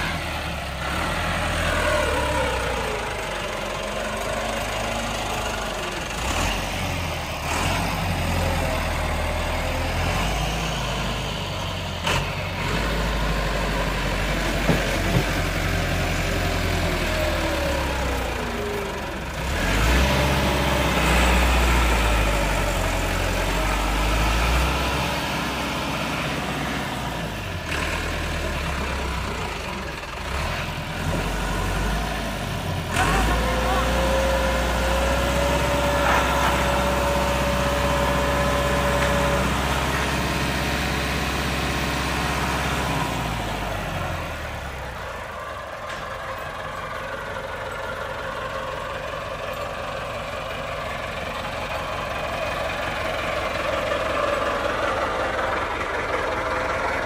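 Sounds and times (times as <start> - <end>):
tractor engine labouring: 0.0 - 57.0.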